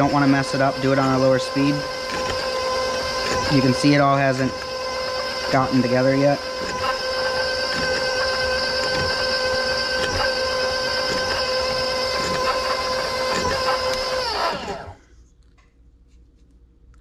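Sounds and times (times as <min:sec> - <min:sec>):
stand mixer motor whine: 0:00.0 - 0:15.0.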